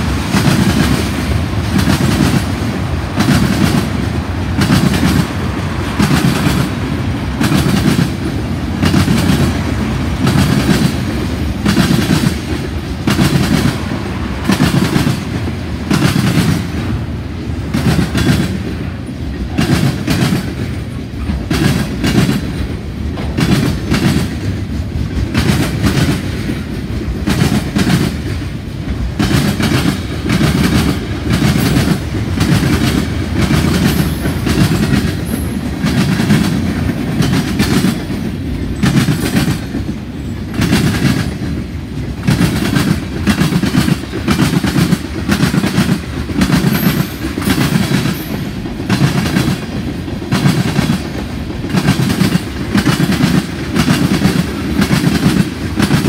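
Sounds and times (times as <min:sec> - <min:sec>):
heavy train rumble: 0:00.0 - 0:56.0
wheels clacking over track: 0:00.0 - 0:56.0.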